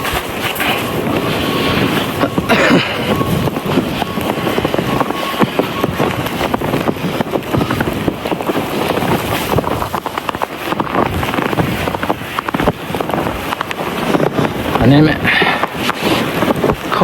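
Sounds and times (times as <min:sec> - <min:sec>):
snow crunching and scraping: 0:00.0 - 0:17.0
wind buffeting microphone: 0:00.0 - 0:17.0.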